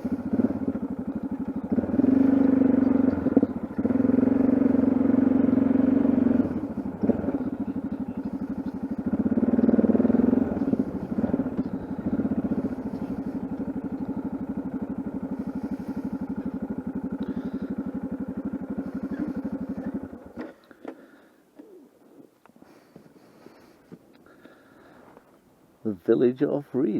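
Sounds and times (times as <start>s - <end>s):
single-cylinder engine running: 0.0s - 21.4s, 22.7s - 25.3s.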